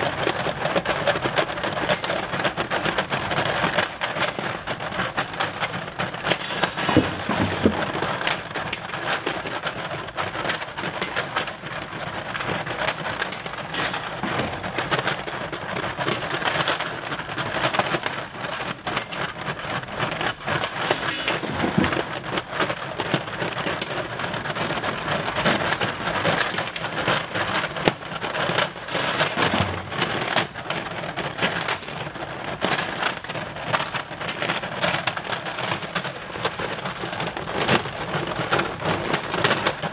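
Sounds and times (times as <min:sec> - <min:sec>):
steel parts clinking on conveyor: 0:00.0 - 0:39.9.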